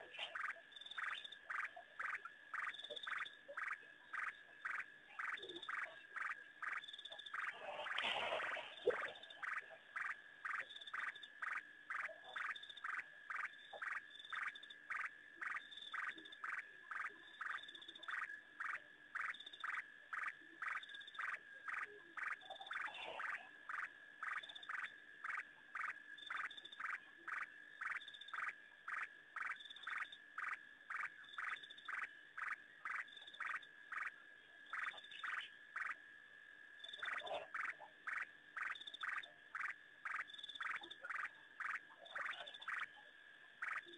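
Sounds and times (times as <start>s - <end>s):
frog calling: 0.0s - 36.1s, 36.8s - 43.9s
night waterhole ambience: 0.0s - 43.9s.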